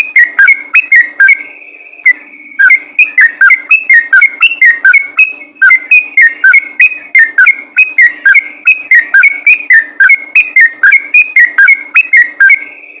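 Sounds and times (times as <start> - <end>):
bulbul singing whistled notes: 0.0 - 13.0.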